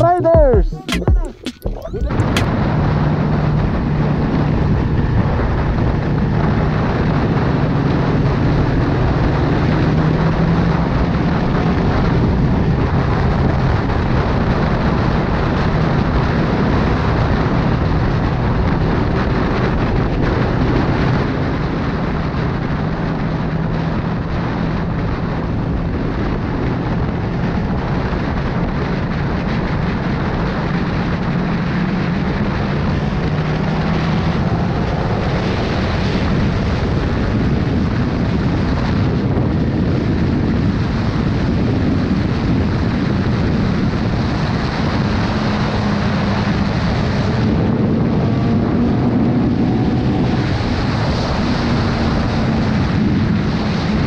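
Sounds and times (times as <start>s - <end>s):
wind rush on microphone: 1.7s - 54.0s.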